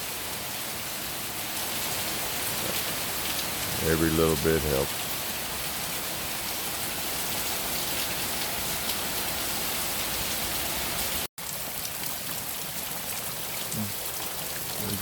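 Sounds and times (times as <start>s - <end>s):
individual raindrops: 0.0s - 15.0s
steady rain falling: 0.0s - 15.0s.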